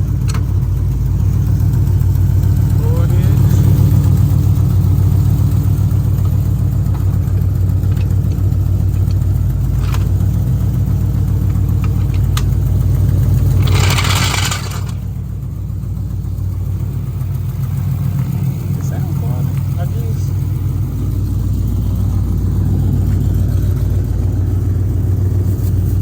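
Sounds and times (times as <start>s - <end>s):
car engine idling with uneven beat: 0.0s - 26.0s.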